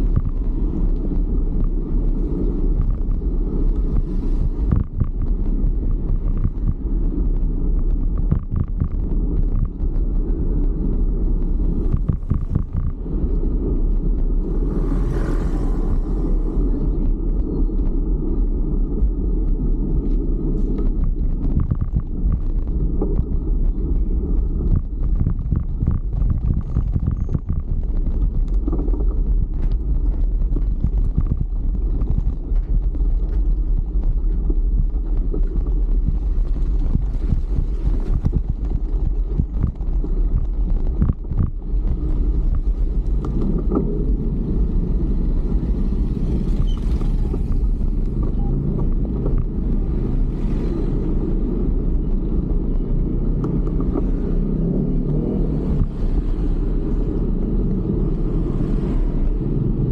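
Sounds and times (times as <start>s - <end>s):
road and traffic noise: 0.0s - 59.9s
wind buffeting microphone: 0.0s - 59.9s.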